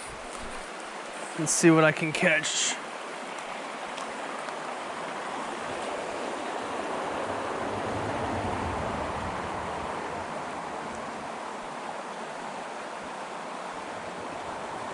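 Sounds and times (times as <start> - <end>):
creek running over rocks: 0.0 - 14.9.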